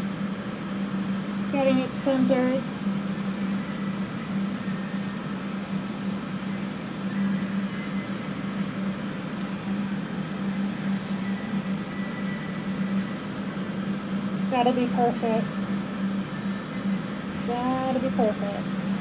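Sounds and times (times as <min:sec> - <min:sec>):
electric fans whooshing hum: 0:00.0 - 0:19.0.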